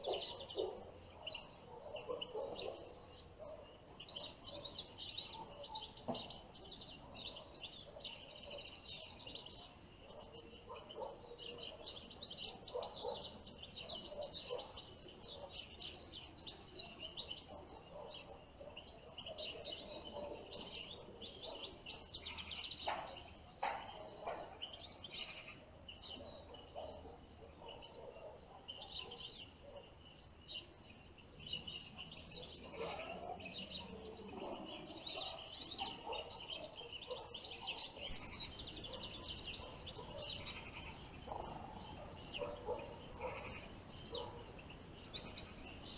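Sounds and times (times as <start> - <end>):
small songbirds twittering: 0.0 - 45.9.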